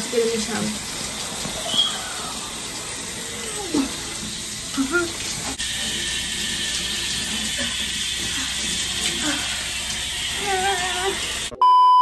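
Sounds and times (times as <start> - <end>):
shower spray running: 0.0 - 11.6.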